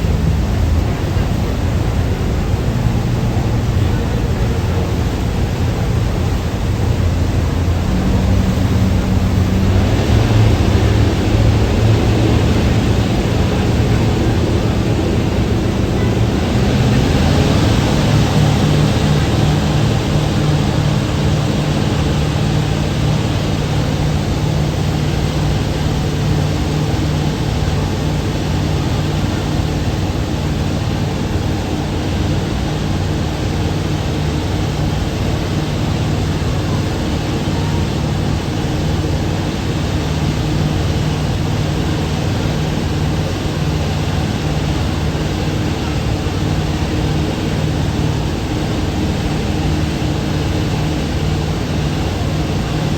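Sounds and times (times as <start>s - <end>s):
boat engines droning: 0.0s - 52.9s.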